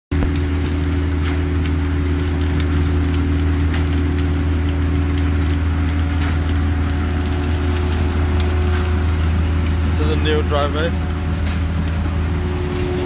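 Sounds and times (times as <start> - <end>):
diesel engine running: 0.1 - 13.0
concrete pouring down chute: 0.4 - 13.0.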